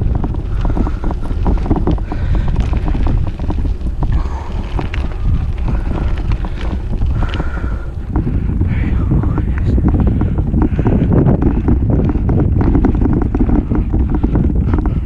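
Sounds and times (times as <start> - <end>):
bike clicking and rattling: 0.0 - 15.0
wind buffeting microphone: 0.0 - 15.0.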